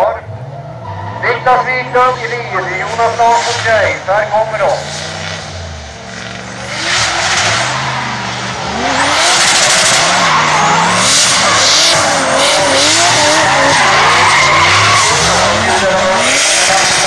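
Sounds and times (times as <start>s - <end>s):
car engines revving: 0.0s - 17.0s
tyres skidding: 0.0s - 17.0s.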